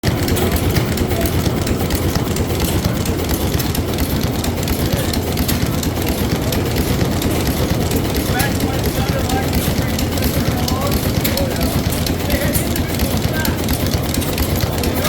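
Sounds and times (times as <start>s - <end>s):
marine diesel engine running: 0.0s - 15.0s.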